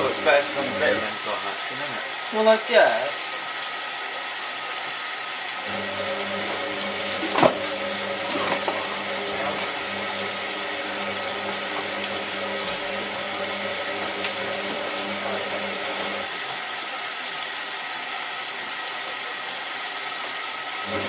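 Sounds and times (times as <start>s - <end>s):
washing machine filling with water: 0.0s - 21.0s.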